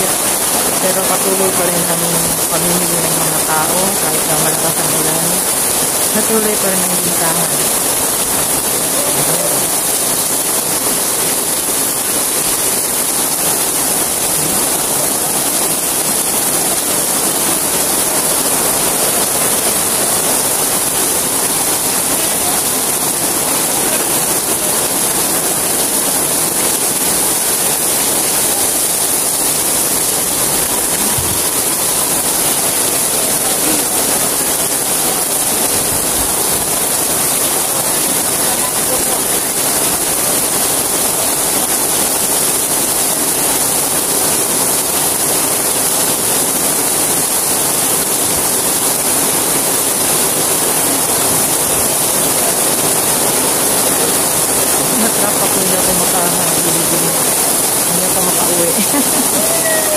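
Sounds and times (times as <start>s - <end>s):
heavy rain on awnings: 0.0s - 59.9s.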